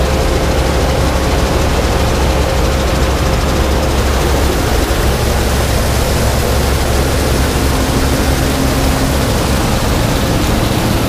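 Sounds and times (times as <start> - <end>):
combine harvester machine rush: 0.0 - 11.0
low engine hum: 0.0 - 11.0.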